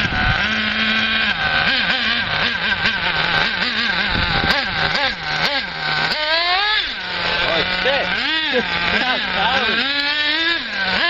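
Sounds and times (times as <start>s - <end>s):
rc buggy engine revving: 0.0s - 11.0s.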